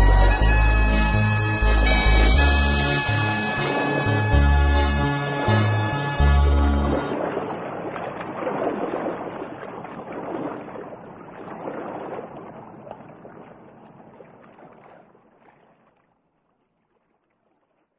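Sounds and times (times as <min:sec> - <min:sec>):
rushing splashy water: 0:01.8 - 0:04.5, 0:05.3 - 0:17.9.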